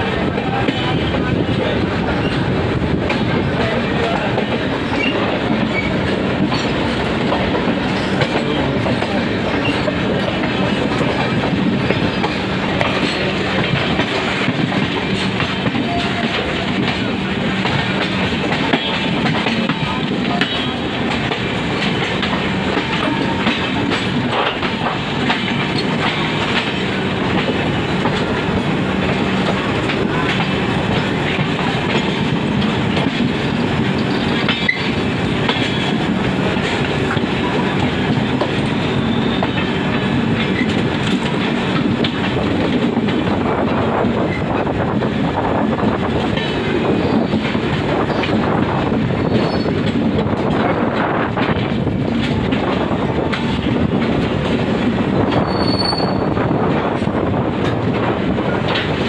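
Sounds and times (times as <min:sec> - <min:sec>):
train wheels rumbling and clicking: 0:00.0 - 0:59.0.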